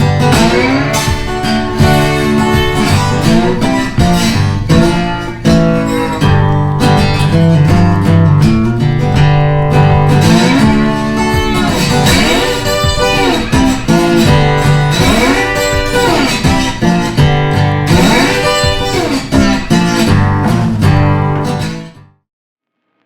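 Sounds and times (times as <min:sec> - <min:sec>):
guitar-led instrumental music: 0:00.0 - 0:22.2.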